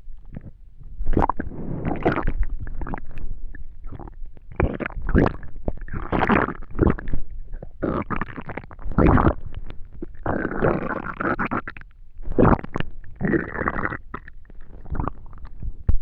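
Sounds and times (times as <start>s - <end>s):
stomach gurgling: 0.0s - 16.0s.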